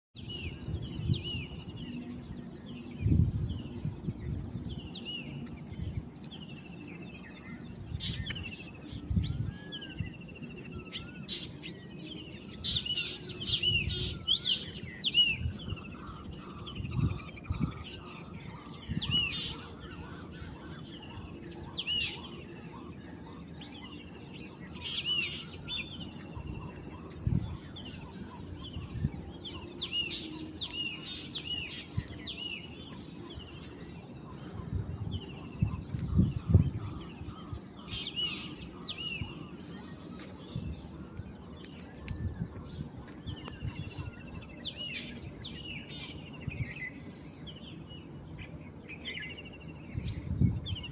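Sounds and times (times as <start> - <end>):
birds chirping: 0.2 - 50.9.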